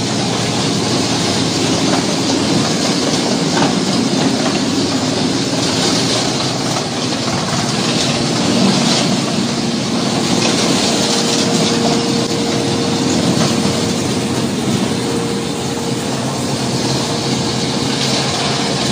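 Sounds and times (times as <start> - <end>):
higher steady mechanical tone: 0.0 - 18.9
wood shredder running: 0.0 - 18.9.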